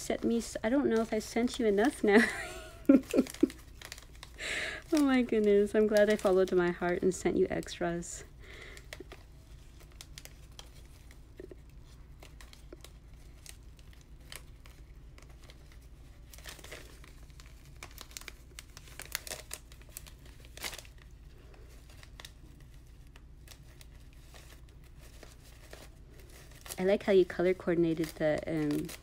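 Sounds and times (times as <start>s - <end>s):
paper crinkling and rustling: 0.0s - 29.0s.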